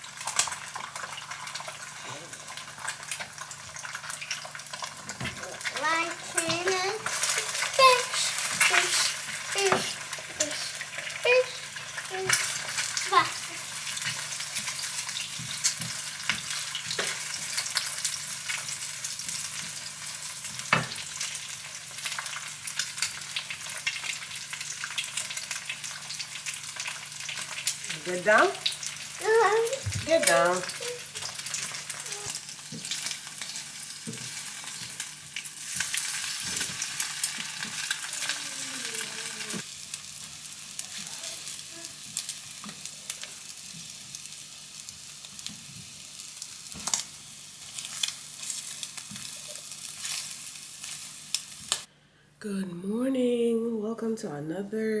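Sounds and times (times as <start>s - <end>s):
eggs sizzling in a frying pan: 0.0s - 51.9s.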